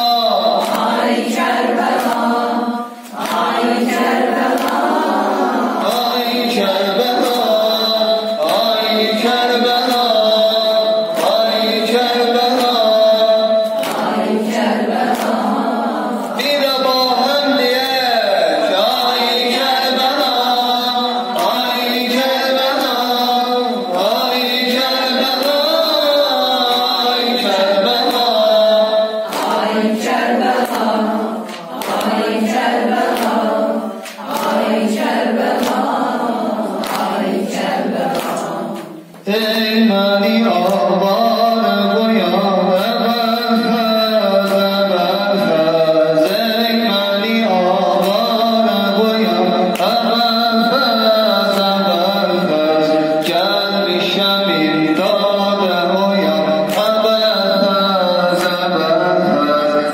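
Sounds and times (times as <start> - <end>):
man chanting through a microphone: 0.0 - 59.9.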